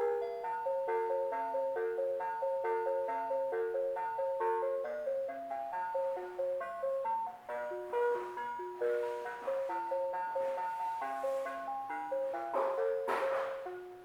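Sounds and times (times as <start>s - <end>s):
bell-like music box tune: 0.0s - 14.0s.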